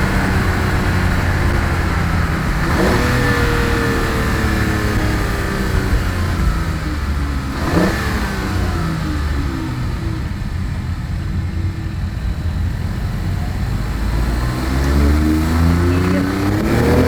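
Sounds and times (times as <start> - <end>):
car engine through exhaust: 0.0 - 17.0.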